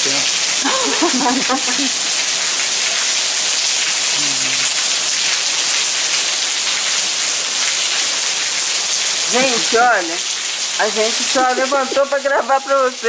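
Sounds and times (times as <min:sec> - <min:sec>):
heavy rain on paving: 0:00.0 - 0:13.0.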